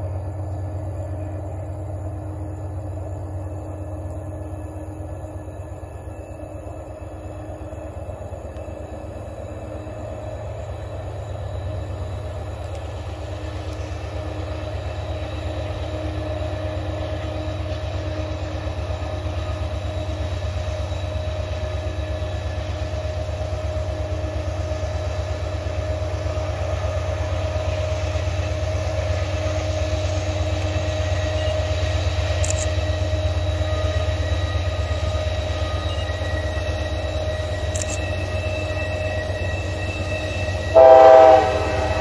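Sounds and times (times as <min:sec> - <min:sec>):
diesel locomotive engine rumble: 0:00.0 - 0:42.0.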